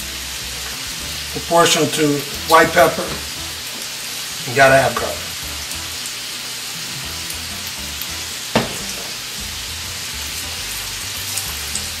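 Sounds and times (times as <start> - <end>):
omelet sizzling in a pan: 0.0 - 12.0.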